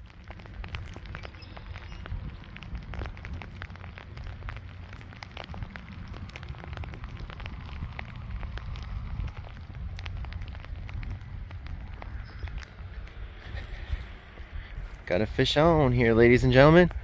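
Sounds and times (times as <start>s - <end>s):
raindrops ticking: 0.0s - 17.0s
steady low rumble: 0.0s - 17.0s.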